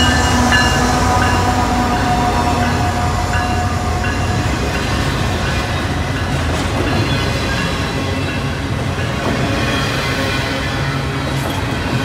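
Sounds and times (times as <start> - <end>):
diesel locomotive engine drone: 0.0 - 12.0
freight train cars clattering: 0.0 - 12.0.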